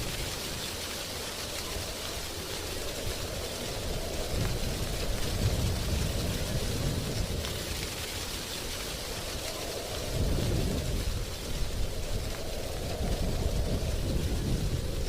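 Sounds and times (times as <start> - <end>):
gusty wind rumbles: 0.0 - 15.0
wind rustling dry leaves: 0.0 - 15.0.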